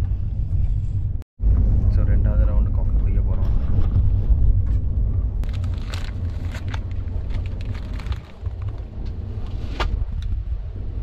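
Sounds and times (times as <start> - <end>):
moving train rumbling: 0.0 - 11.0.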